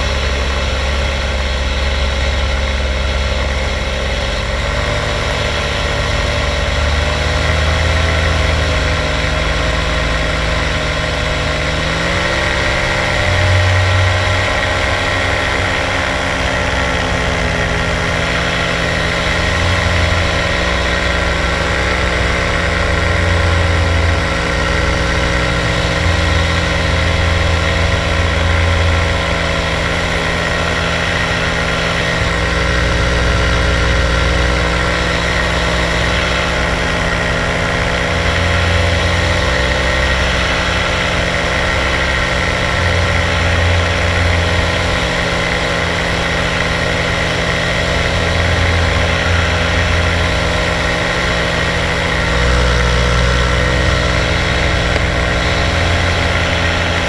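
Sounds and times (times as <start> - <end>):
paramotor engine running: 0.0 - 57.0.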